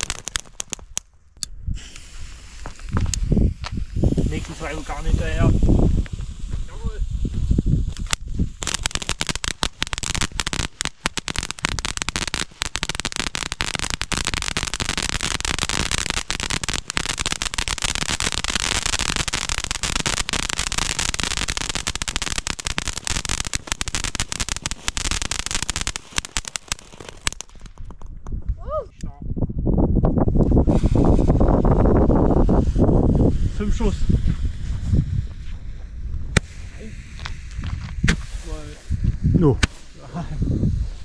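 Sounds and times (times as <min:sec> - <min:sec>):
firework fountain hissing and crackling: 0:00.0 - 0:01.0, 0:01.6 - 0:28.1, 0:30.2 - 0:41.0.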